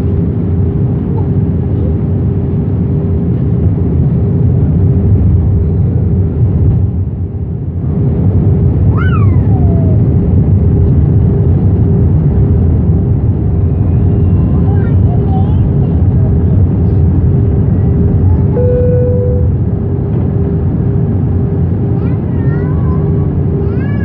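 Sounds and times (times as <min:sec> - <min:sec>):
constant low hum: 0:00.0 - 0:24.0
jet engine and airflow rumble: 0:00.0 - 0:24.0.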